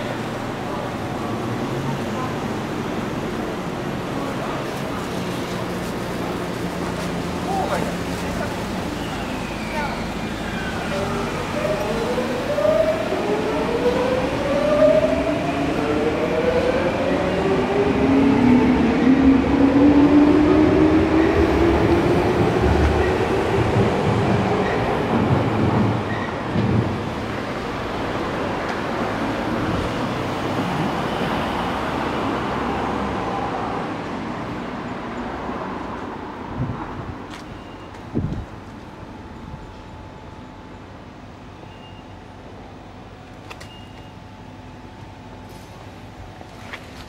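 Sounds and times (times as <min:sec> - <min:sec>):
train rumble: 0:00.0 - 0:47.0.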